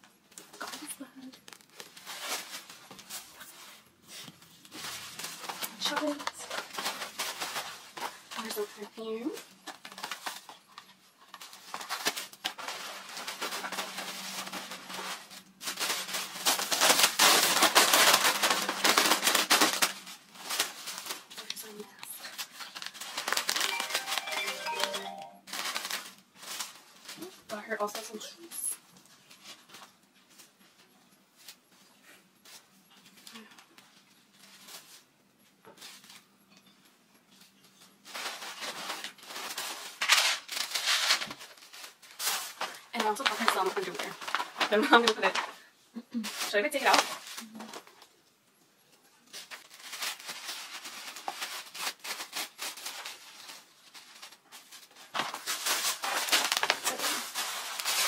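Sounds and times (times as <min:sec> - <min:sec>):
tissue paper and plastic crinkling: 0:00.2 - 0:58.0.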